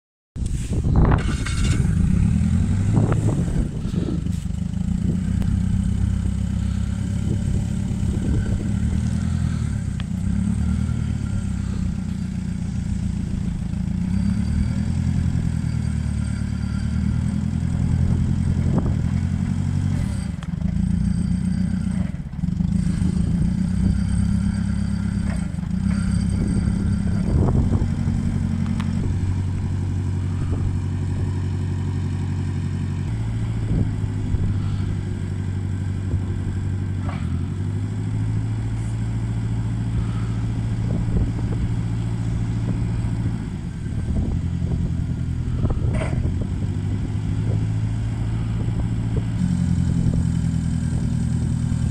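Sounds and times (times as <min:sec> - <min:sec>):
forklift engine running: 0:00.4 - 0:51.9.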